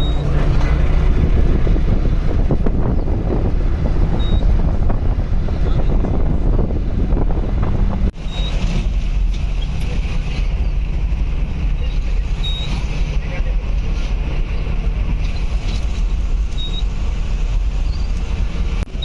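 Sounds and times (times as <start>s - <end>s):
vehicle engine rumble: 0.0s - 19.0s
wind buffeting microphone: 0.0s - 19.0s.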